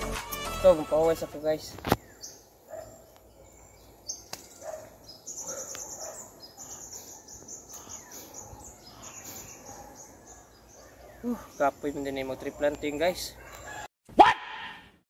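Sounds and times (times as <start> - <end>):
small birds chirping trills: 1.0 - 13.9.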